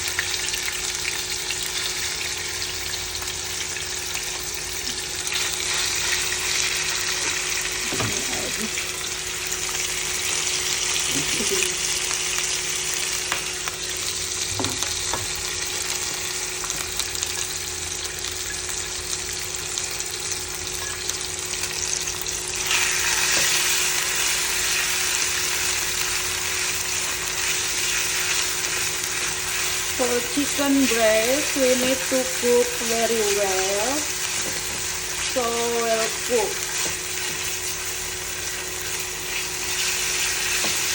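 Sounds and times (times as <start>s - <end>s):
chicken sizzling in hot oil: 0.0s - 40.9s.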